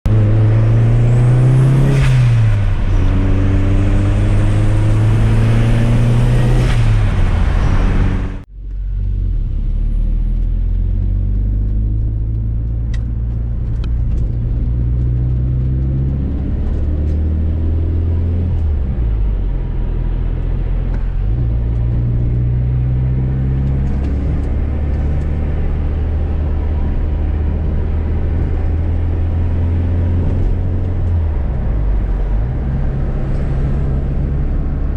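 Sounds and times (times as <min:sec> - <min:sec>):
car engine accelerating hard: 0:00.1 - 0:34.9.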